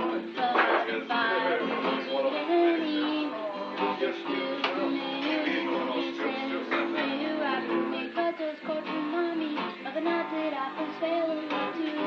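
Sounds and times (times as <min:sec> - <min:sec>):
acoustic guitar strumming chords: 0:00.0 - 0:12.0
young man singing: 0:00.0 - 0:12.0.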